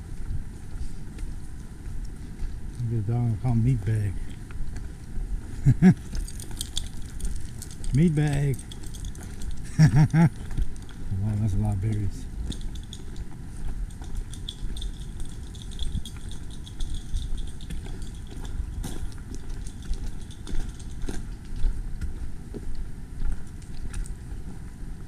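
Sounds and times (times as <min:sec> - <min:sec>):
footsteps crunching on trail: 0:00.0 - 0:25.0
steady low rumble: 0:00.0 - 0:25.0.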